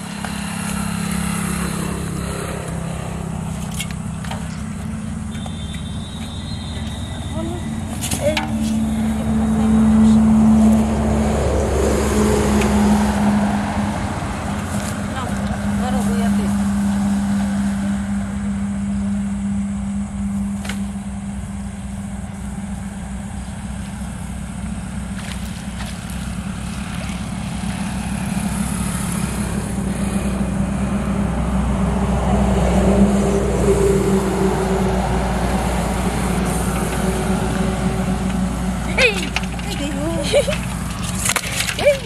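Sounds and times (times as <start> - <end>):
deep rumble: 0.0 - 42.0
truck engine humming: 0.0 - 42.0.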